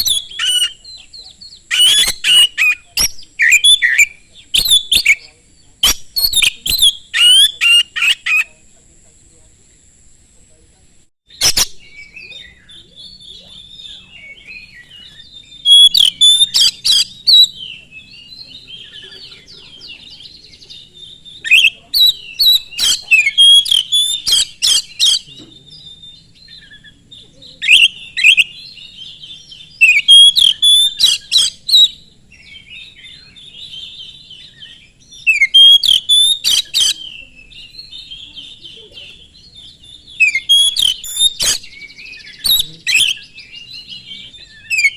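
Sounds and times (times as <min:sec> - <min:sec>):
bird singing sharp rapid notes: 0:00.0 - 0:08.6, 0:11.3 - 0:44.9
soft bird twittering: 0:00.0 - 0:09.7, 0:10.4 - 0:44.9.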